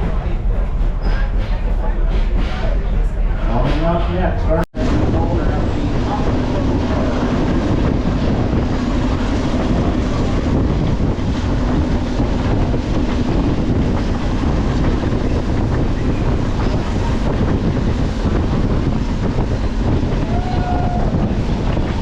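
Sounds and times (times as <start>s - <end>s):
train rumbling and rattling: 0.0s - 22.0s
wind buffeting microphone: 0.0s - 22.0s.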